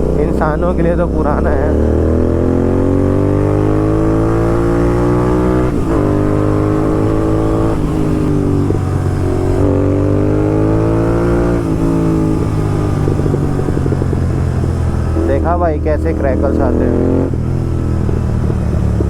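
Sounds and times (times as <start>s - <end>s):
exhaust crackling: 0.0s - 19.0s
motorcycle engine revving: 0.0s - 19.0s.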